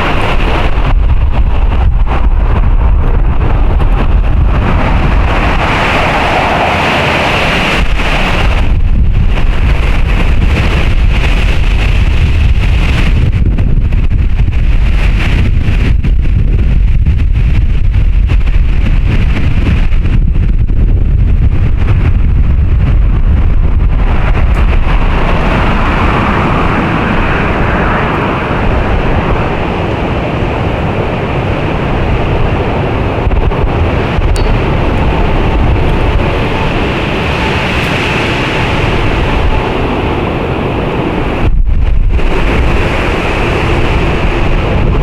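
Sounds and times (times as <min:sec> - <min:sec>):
deep rumble: 0:00.0 - 0:45.0
storm wind gusting through trees: 0:00.0 - 0:45.0
wind buffeting microphone: 0:00.0 - 0:45.0.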